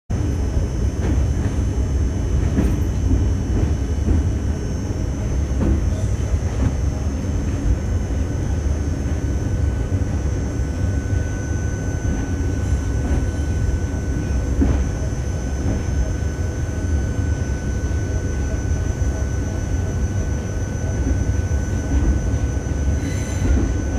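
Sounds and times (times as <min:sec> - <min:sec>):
train rumbling: 0:00.1 - 0:23.9
faint steady whine: 0:00.2 - 0:23.9.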